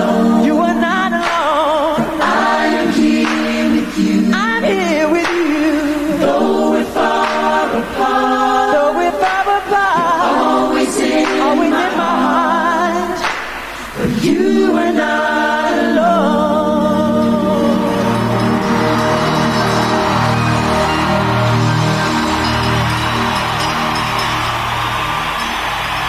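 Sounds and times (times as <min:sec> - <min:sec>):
choir singing unaccompanied: 0:00.0 - 0:26.0.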